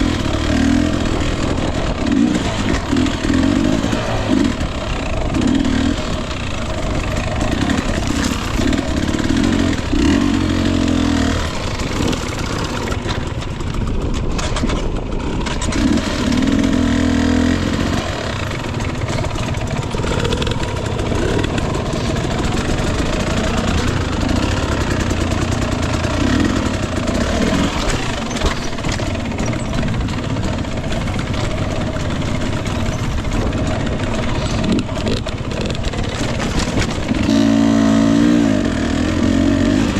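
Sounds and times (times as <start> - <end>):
dirt bike engine revving: 0.0 - 14.6, 15.2 - 39.9.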